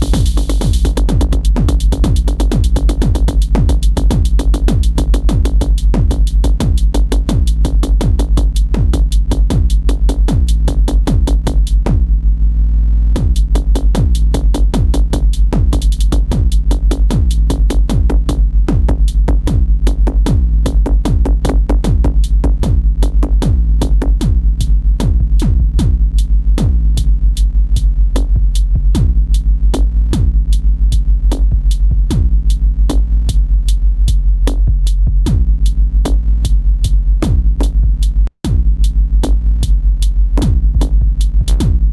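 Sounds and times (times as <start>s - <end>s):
drum-machine beat: 0.0s - 12.1s, 13.2s - 41.9s
heavy bass: 0.0s - 41.9s.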